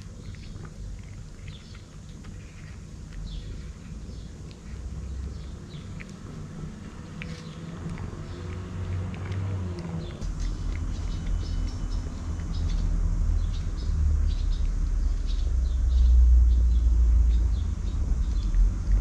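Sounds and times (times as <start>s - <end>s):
cat crunching dry kibble: 0.0s - 15.6s, 16.9s - 19.0s
low rumble: 3.0s - 19.0s.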